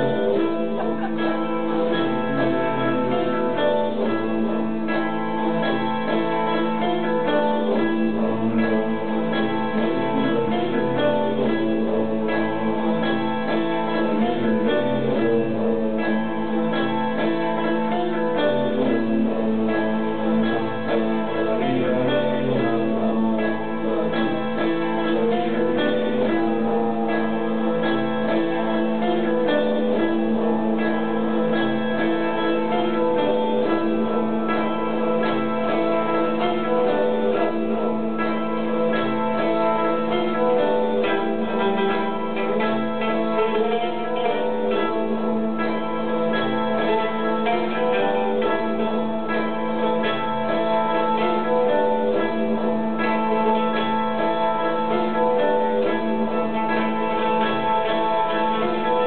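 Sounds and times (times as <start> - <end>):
plucked lute notes: 0.0 - 59.0
steady lute drone: 0.0 - 59.0.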